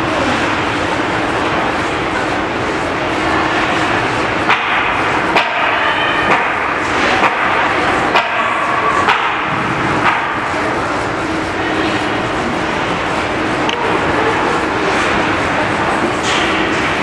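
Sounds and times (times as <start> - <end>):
crowd and arena noise: 0.0 - 17.0.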